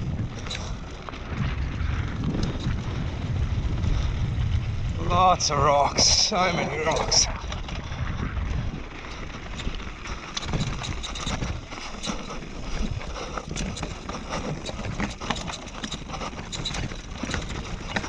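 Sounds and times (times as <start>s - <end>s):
bike rattling clicks and knocks: 0.0s - 4.3s, 7.1s - 18.0s
tyres crunching over rocks: 0.0s - 18.0s
wind rumble on microphone: 0.0s - 18.0s.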